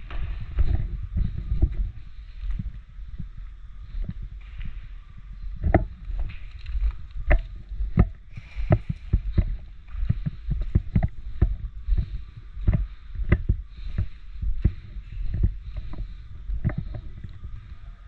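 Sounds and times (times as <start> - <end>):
footsteps on rough ground: 0.0 - 17.8.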